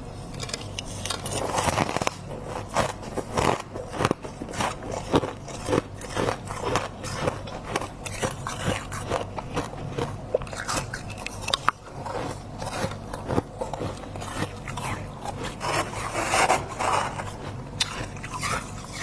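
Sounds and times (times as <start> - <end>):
crunching freezer frost: 0.0 - 19.0.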